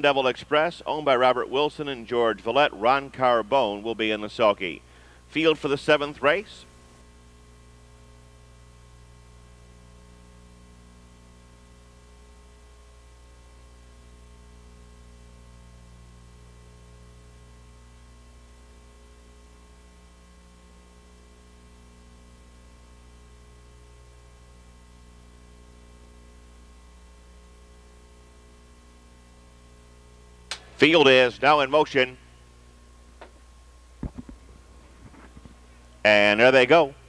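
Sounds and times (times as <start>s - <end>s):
electrical hum: 0.0s - 37.0s.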